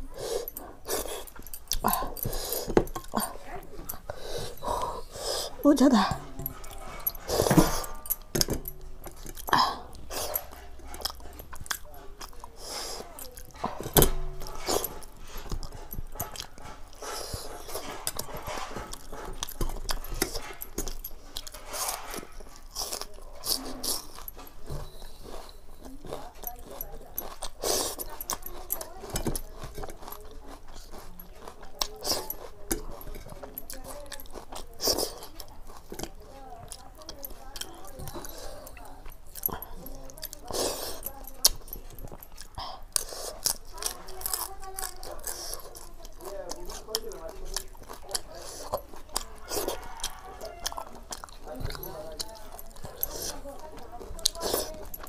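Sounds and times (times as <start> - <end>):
person chewing with wet mouth sounds: 0.0 - 55.0.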